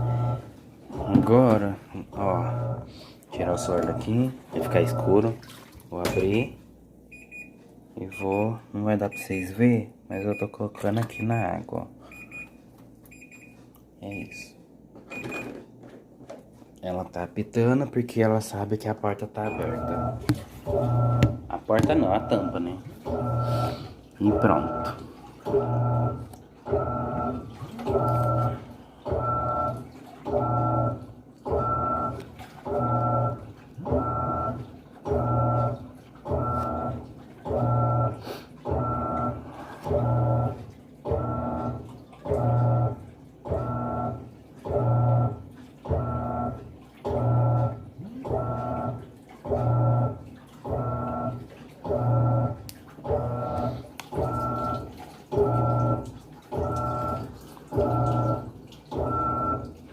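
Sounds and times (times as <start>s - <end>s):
washing machine motor agitating: 0.0s - 14.3s, 15.1s - 59.9s.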